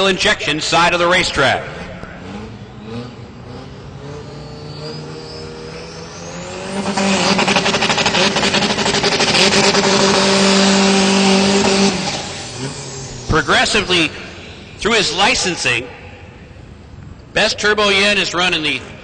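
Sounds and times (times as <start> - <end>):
high whine: 0.0 - 18.9
drag racing engine at high revs: 0.0 - 19.0.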